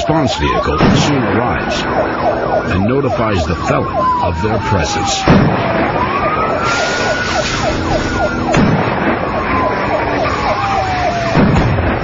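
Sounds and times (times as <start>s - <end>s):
fast siren sweep: 0.0s - 11.8s
police siren wailing: 0.0s - 12.0s
vehicle and road noise: 0.0s - 12.0s
sharp bangs: 0.4s - 4.2s, 4.9s - 12.0s.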